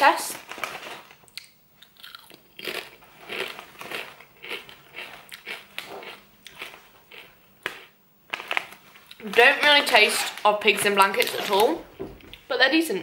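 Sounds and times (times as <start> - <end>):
crisps being chewed: 0.3 - 11.7.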